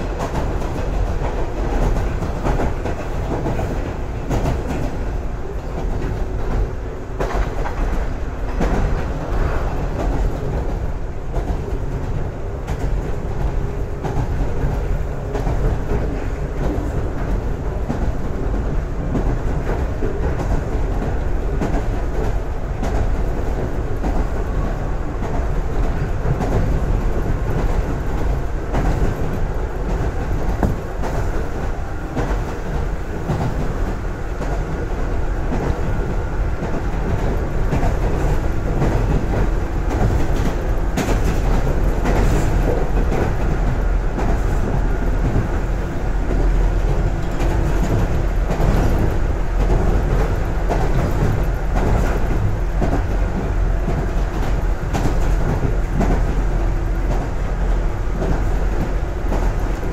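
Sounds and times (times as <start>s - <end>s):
rail joint clicks: 0.0s - 59.9s
train wheels rumbling on rails: 0.0s - 59.9s.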